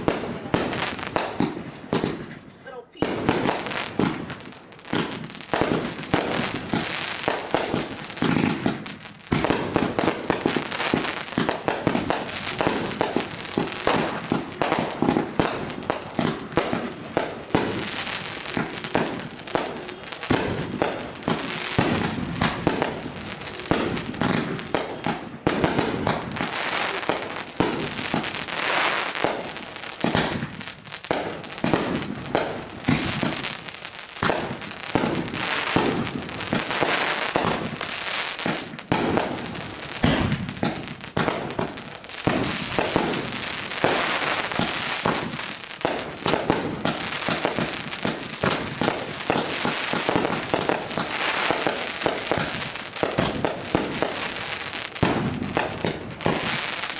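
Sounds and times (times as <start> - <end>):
fireworks bangs and bursts: 0.0 - 56.9.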